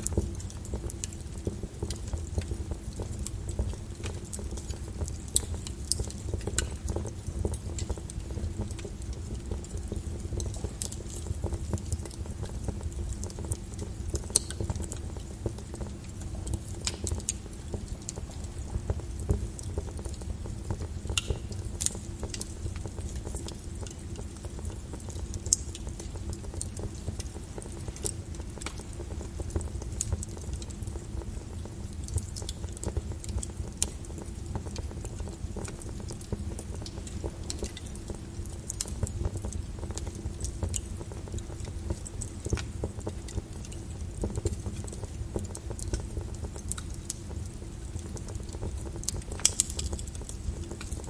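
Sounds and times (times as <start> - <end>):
steady rain: 0.0 - 51.0
wood fire crackling: 0.0 - 51.0.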